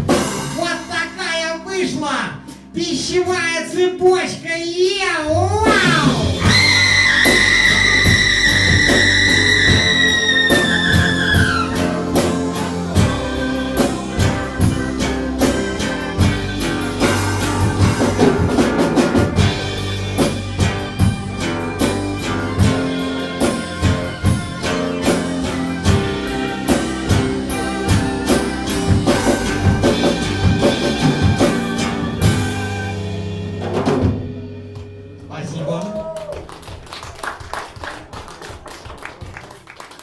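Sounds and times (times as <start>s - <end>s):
drum kit beat: 0.0s - 40.0s
live rock band playing: 0.0s - 40.0s.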